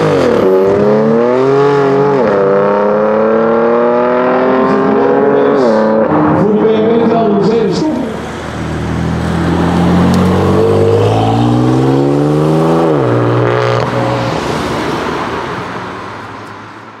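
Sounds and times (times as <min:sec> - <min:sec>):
car engine pulling away: 0:00.0 - 0:06.8, 0:07.7 - 0:16.7.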